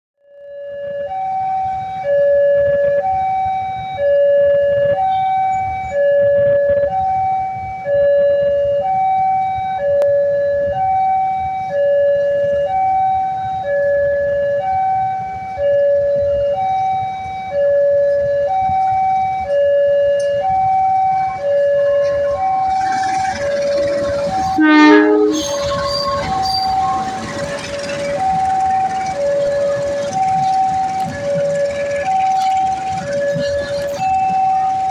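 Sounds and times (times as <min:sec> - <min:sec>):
level-crossing two-tone alarm: 0:00.3 - 0:34.9.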